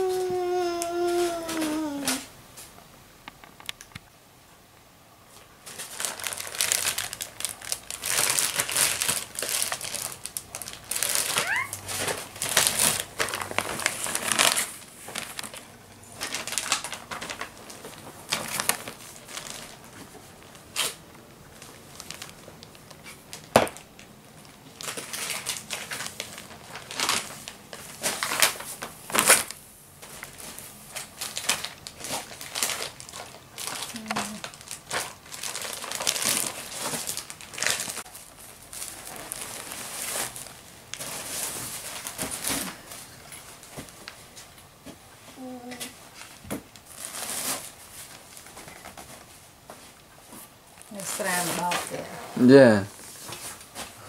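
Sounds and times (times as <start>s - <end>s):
plastic bags rustling and crinkling: 0.0s - 2.8s, 5.3s - 54.0s.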